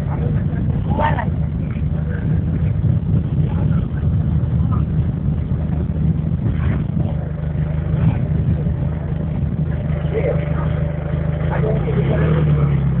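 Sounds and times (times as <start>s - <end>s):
motor engine droning: 0.0s - 13.0s.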